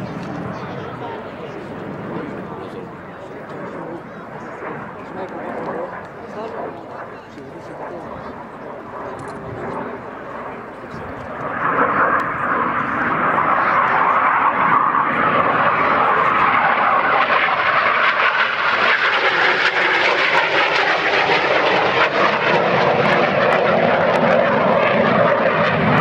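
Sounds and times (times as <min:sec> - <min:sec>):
jet flying overhead: 0:00.0 - 0:26.0.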